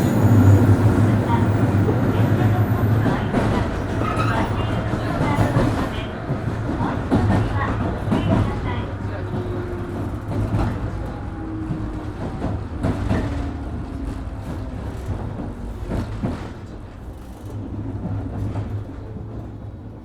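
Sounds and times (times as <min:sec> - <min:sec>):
low hum under train floor: 0:00.0 - 0:20.0.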